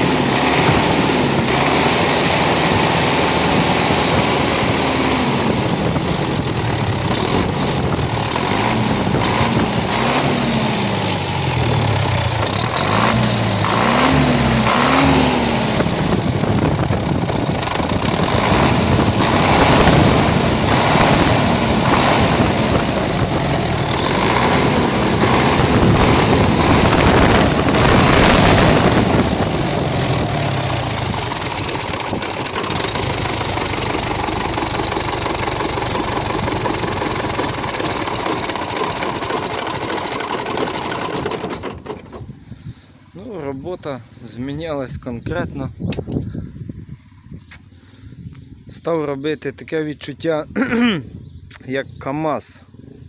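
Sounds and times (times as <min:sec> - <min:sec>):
tractor diesel engine revving: 0:00.0 - 0:42.5.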